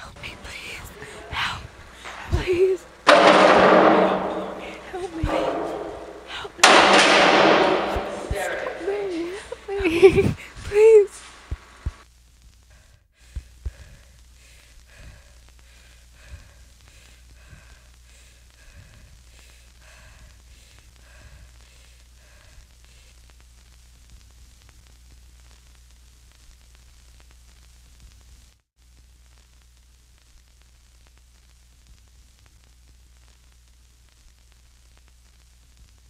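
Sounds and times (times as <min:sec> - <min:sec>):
faint static hiss: 0:00.0 - 0:36.0
low electrical hum: 0:00.0 - 0:36.0.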